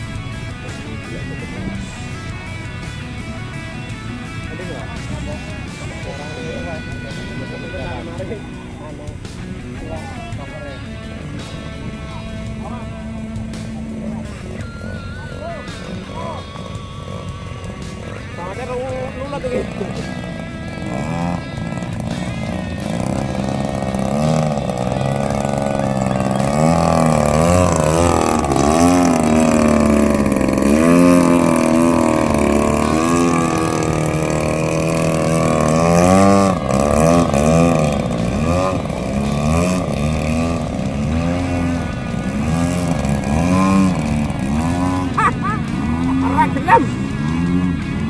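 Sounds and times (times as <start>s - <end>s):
model plane engine in flight: 0.0s - 48.0s.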